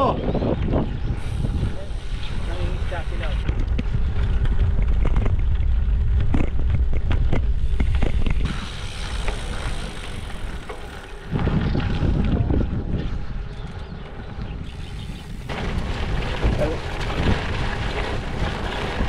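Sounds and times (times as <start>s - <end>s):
bike tyre rumble: 0.0s - 19.0s
wind buffeting microphone: 0.0s - 19.0s.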